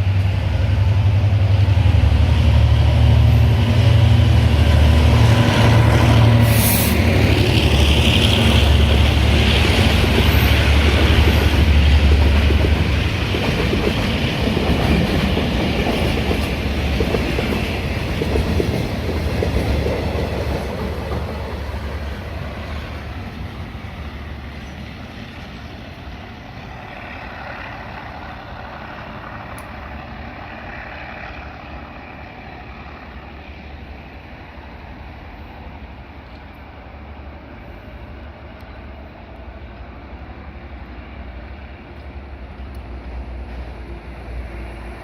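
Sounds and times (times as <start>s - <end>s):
train wheels rumbling and clacking: 0.0s - 37.2s, 38.3s - 45.0s.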